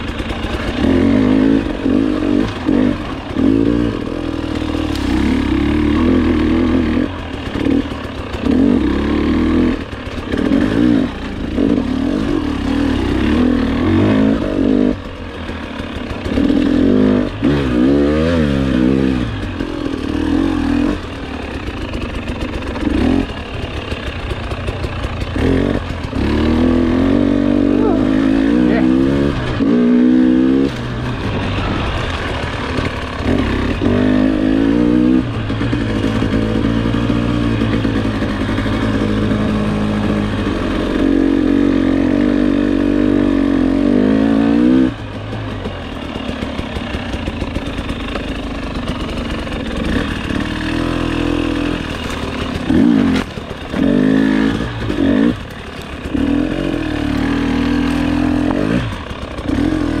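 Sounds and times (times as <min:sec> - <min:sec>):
dirt bike engine revving: 0:00.0 - 1:00.0.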